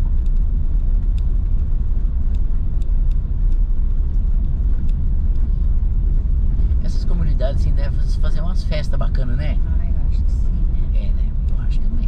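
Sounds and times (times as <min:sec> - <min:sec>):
gravel ticks: 0:00.0 - 0:12.0
tyres and engine rumble: 0:00.0 - 0:12.0.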